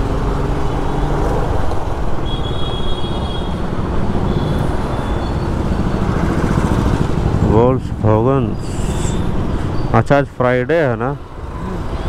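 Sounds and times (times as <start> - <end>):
surrounding traffic: 0.0 - 12.0
wind: 0.0 - 12.0.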